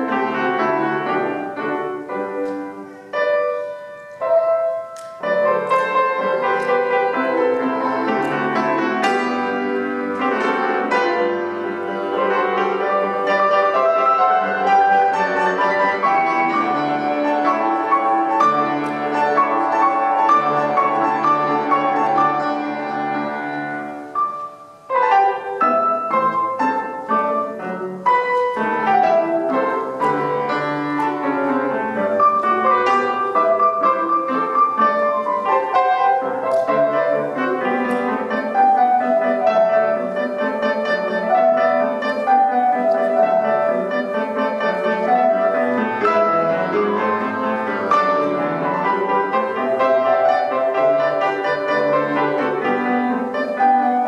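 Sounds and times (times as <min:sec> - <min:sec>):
classical piano duet: 0:00.0 - 0:54.0.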